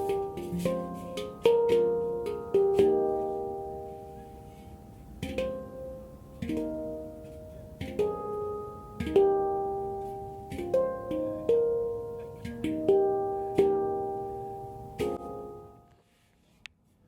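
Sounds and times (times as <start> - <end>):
handpan notes ringing: 0.0 - 16.0.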